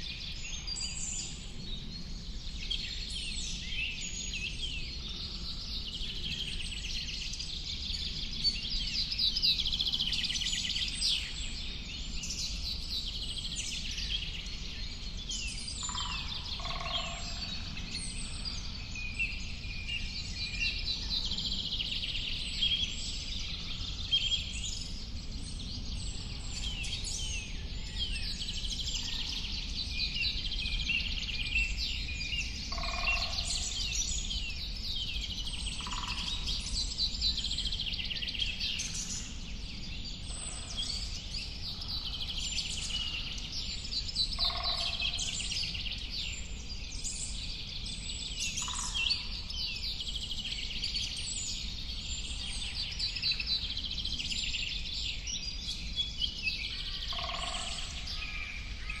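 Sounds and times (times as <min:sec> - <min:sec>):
birds singing in chorus: 0:00.0 - 0:59.0.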